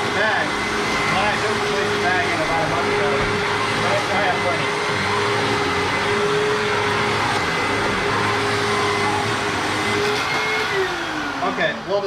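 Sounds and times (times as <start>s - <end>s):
upright vacuum running: 0.0s - 12.0s.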